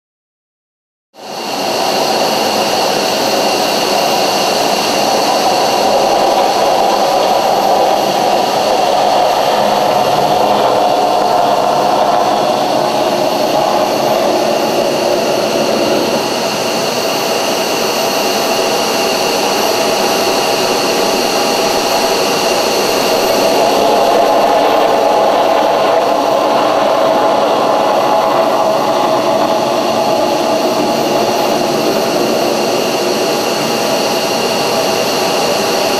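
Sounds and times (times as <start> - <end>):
jet engines roaring: 1.2 - 35.9.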